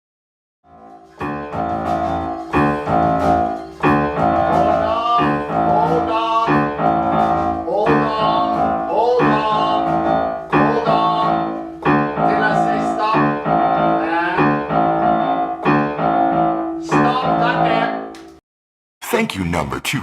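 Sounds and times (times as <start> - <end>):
piano chords: 0.7 - 18.1.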